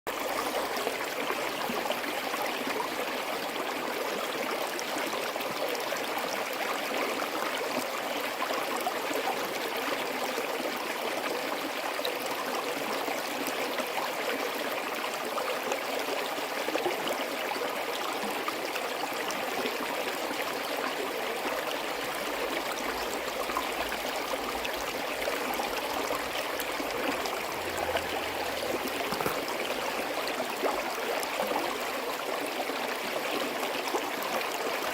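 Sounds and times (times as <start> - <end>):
stream running over rocks: 0.1 - 34.9.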